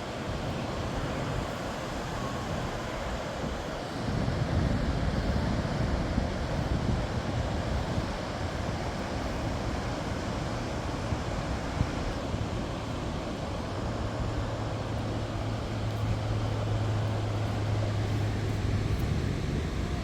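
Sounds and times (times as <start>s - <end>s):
ocean surf washing in: 0.0s - 20.0s
wind buffeting microphone: 0.1s - 20.0s.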